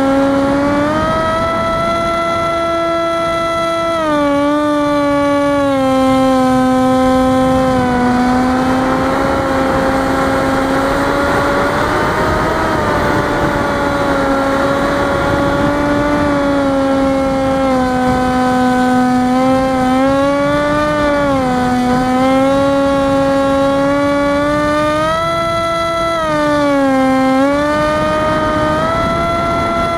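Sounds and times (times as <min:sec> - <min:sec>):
electric motor whining: 0:00.0 - 0:29.9
wind noise: 0:00.0 - 0:29.9.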